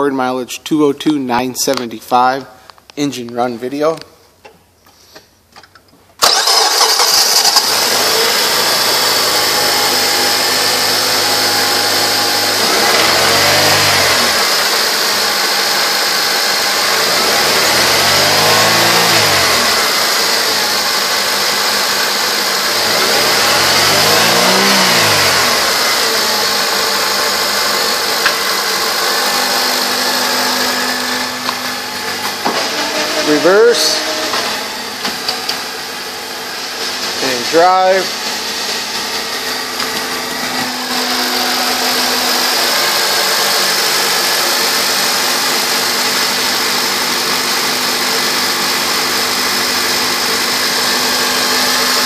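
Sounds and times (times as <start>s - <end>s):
car engine starting and idling: 5.4s - 52.0s
car engine revving: 6.2s - 52.0s.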